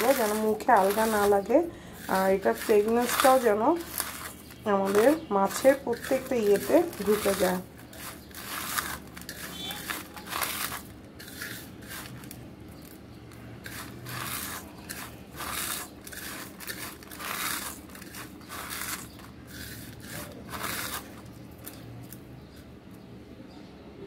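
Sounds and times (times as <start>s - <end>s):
fried onions crunching: 0.0s - 22.8s.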